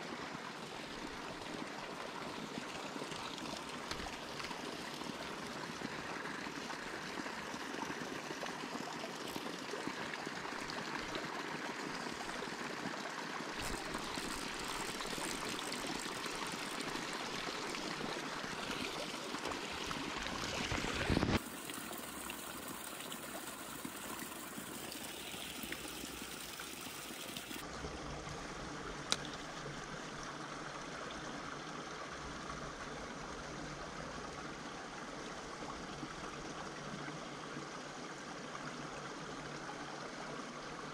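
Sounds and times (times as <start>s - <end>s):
stream rushing and trickling: 0.0s - 40.9s.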